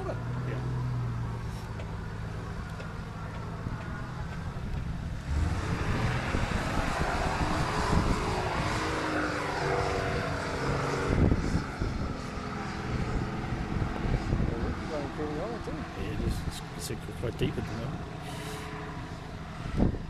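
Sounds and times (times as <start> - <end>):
vehicle engine revving uphill: 0.0 - 20.0.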